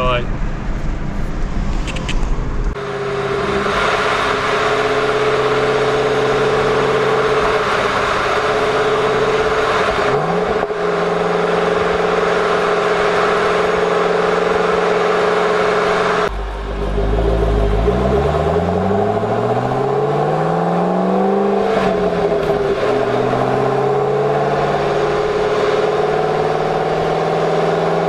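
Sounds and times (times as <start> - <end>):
car engine cruising: 0.0 - 28.0
road and tyre noise: 0.0 - 28.0.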